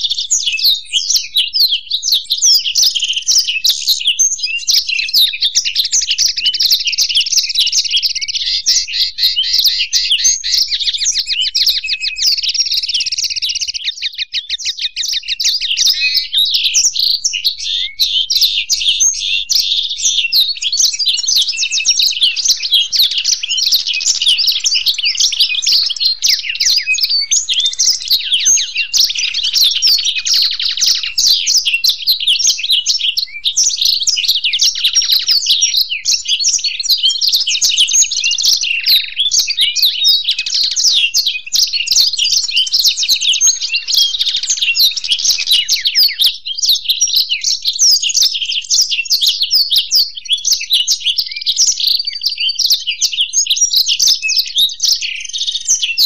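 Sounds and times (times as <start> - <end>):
songbirds twittering and trilling: 0.0 - 56.0.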